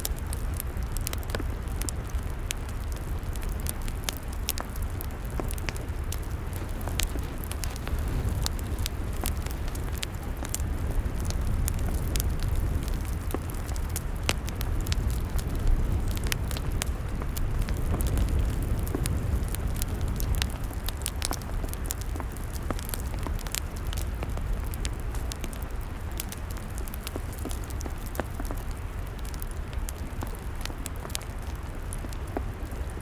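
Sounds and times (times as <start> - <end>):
log fire crackling: 0.0 - 33.0.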